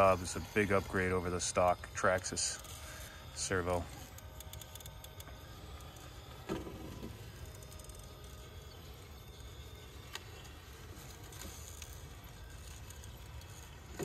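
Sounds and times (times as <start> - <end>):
electric motor whining faintly: 0.0 - 14.0.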